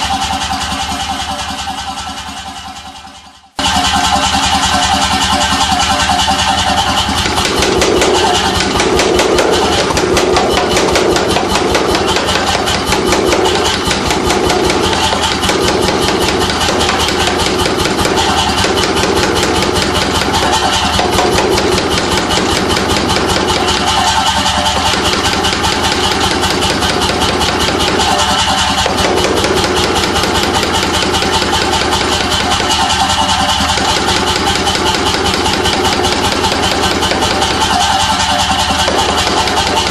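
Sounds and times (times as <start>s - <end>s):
steady machine noise: 0.0s - 39.9s
air hammer ram striking: 3.6s - 39.9s.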